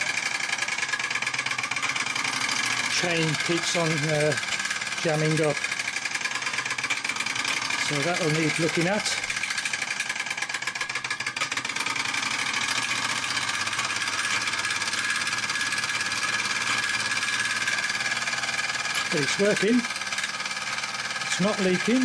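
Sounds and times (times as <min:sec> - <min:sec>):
model steam engine clatter: 0:00.0 - 0:22.0.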